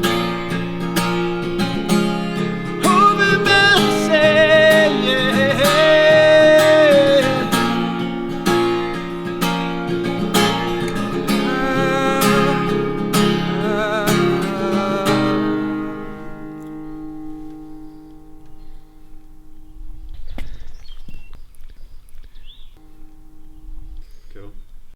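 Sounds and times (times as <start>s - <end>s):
acoustic guitar strumming: 0.0s - 21.2s, 22.8s - 24.9s.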